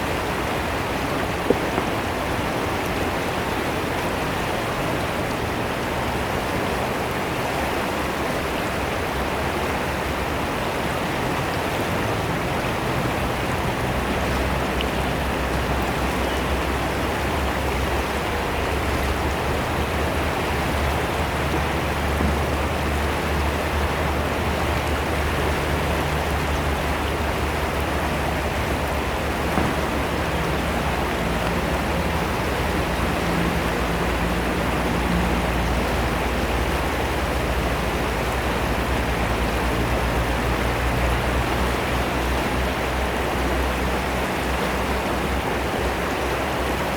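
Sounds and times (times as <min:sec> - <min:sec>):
river water rushing and splashing: 0:00.0 - 0:46.9.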